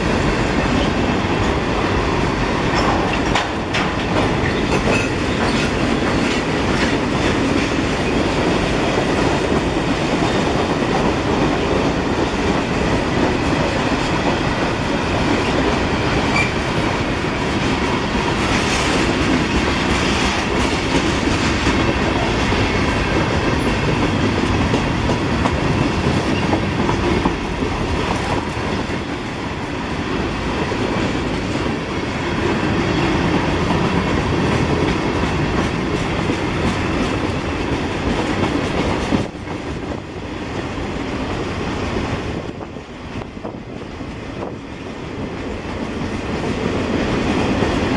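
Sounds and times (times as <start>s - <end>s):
train wheels clicking over rail joints: 0.0s - 47.9s.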